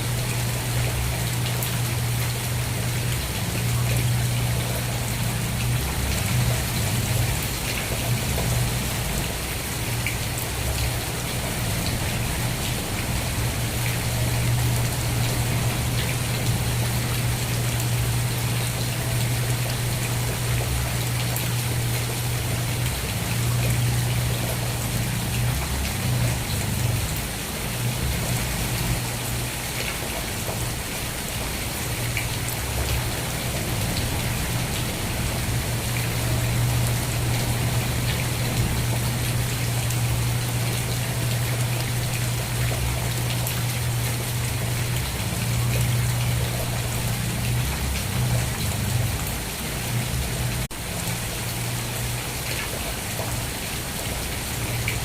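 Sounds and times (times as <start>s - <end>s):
low steady rumble: 0.0s - 29.5s, 32.1s - 52.0s
steady rain falling: 0.0s - 55.0s.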